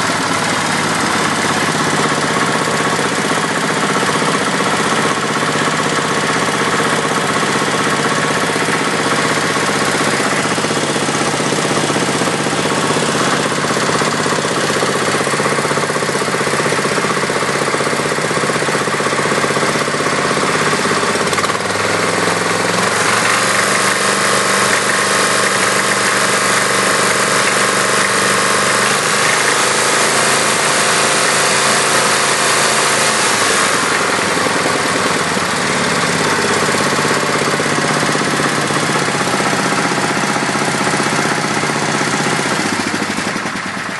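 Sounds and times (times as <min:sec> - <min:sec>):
tractor engine running with rattle: 0:00.0 - 0:43.9.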